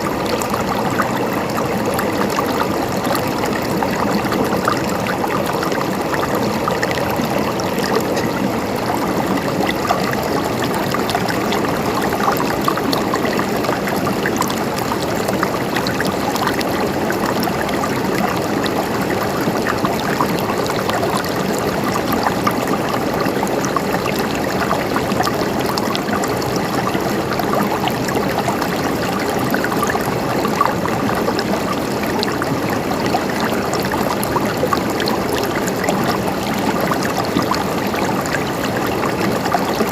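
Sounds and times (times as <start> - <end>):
river rushing over rocks: 0.0 - 39.9
water splashing and gurgling: 0.0 - 39.9.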